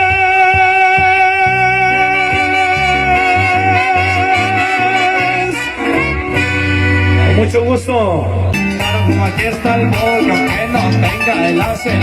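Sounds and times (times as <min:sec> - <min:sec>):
moving bass line: 0:00.0 - 0:12.0.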